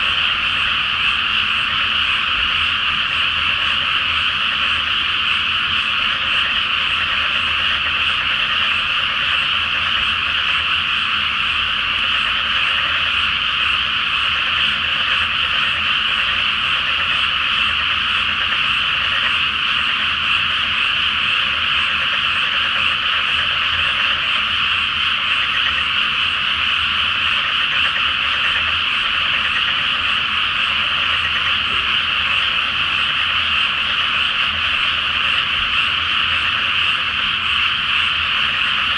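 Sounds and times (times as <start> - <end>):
frogs croaking in chorus: 0.0 - 38.9.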